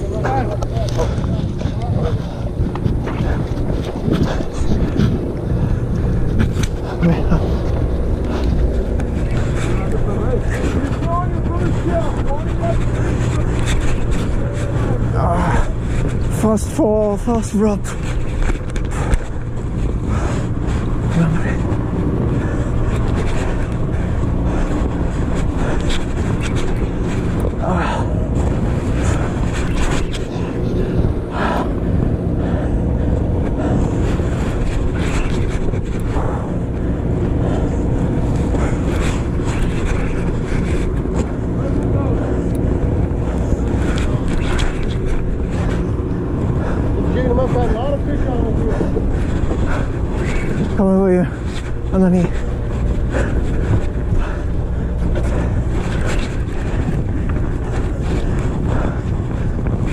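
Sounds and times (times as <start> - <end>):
boat engine humming: 0.0 - 59.9
wind buffeting microphone: 0.0 - 59.9.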